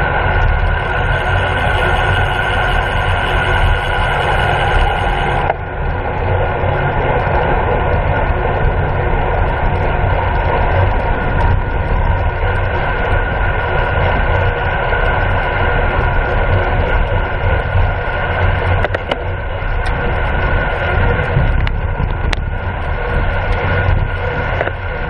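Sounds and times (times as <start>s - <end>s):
bicycle tyres on asphalt: 0.0s - 25.0s
heavy wind rush: 0.0s - 25.0s.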